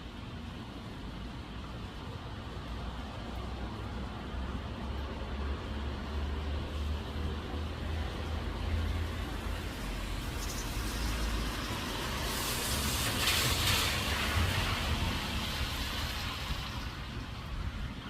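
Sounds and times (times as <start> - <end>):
rain hiss: 0.0 - 17.8
vehicle passing on wet road: 2.8 - 17.8.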